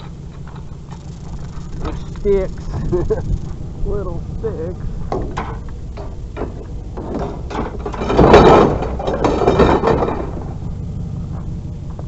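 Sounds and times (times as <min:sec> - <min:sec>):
junk clattering and scraping: 0:00.0 - 0:12.0
steady low hum: 0:00.0 - 0:12.0.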